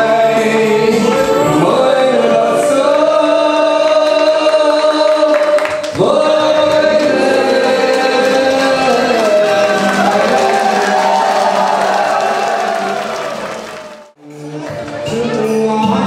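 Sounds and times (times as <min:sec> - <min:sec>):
music: 0:00.0 - 0:16.0
person singing long notes: 0:00.0 - 0:16.0.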